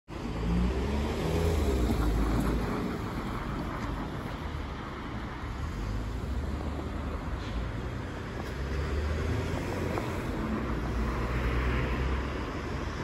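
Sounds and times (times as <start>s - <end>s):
street traffic noise: 0.1s - 13.0s
car driving past: 0.2s - 4.9s, 5.5s - 13.0s.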